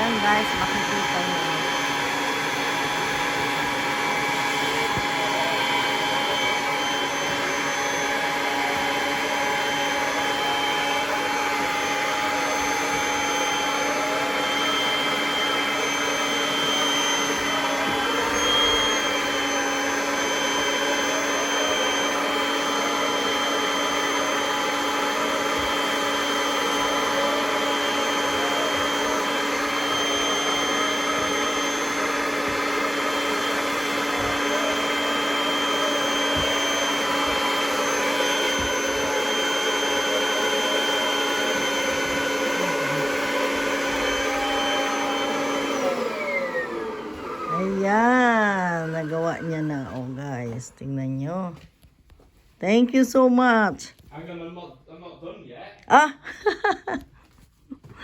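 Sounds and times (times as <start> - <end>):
vacuum cleaner motor whine: 0.0 - 51.7, 52.6 - 53.9.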